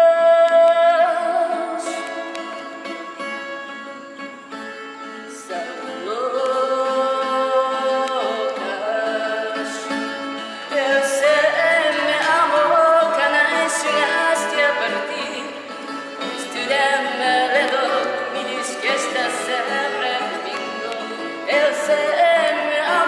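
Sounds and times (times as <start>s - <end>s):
plucked guitars: 0.0s - 23.0s
woman singing: 0.0s - 23.0s.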